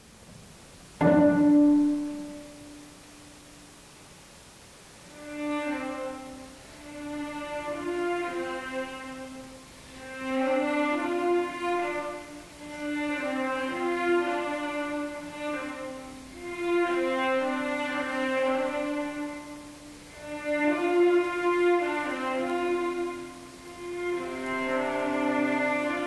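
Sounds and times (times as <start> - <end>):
bowed cello and strings: 1.0 - 3.1, 5.0 - 26.0.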